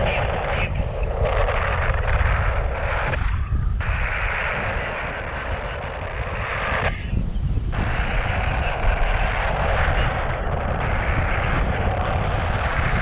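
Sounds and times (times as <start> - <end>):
steady hiss: 0.0 - 13.0
wind buffeting microphone: 0.0 - 13.0.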